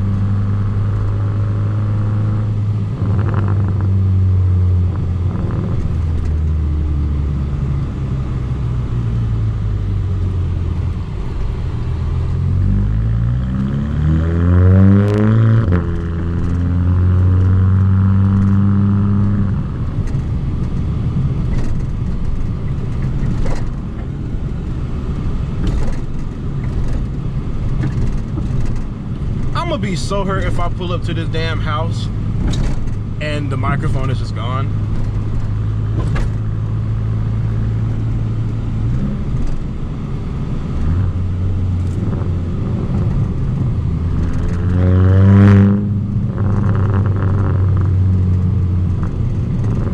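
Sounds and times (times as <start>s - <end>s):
car exhaust accelerating: 0.0s - 49.9s
road and wind rumble: 0.0s - 49.9s.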